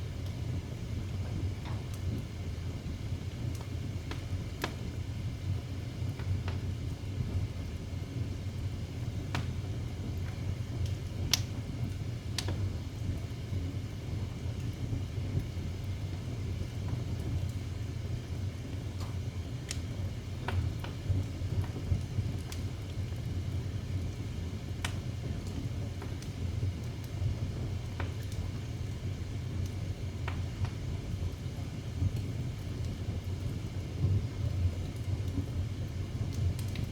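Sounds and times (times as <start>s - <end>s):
low fire rumble: 0.0s - 36.9s
wood fire crackling: 0.0s - 36.9s.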